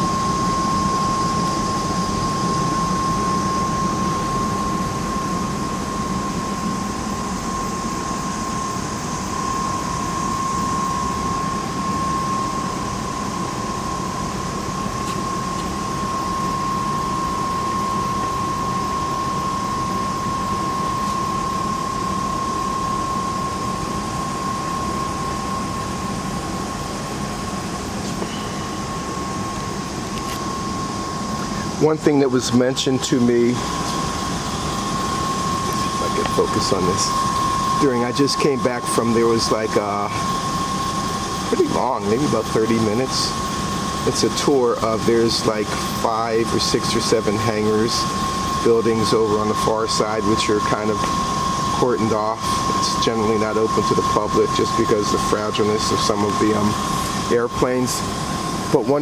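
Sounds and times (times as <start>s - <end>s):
mechanical drone with high whine: 0.0s - 59.0s.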